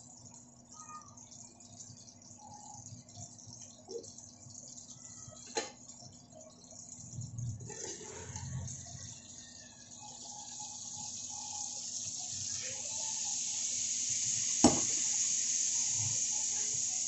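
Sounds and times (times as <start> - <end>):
sauce sizzling in a frying pan: 0.8 - 17.0.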